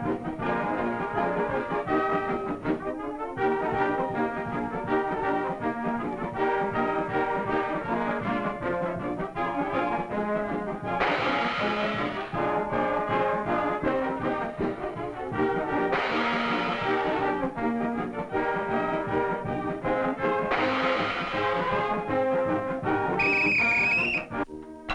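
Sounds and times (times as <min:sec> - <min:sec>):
brass band music: 0:00.0 - 0:24.9.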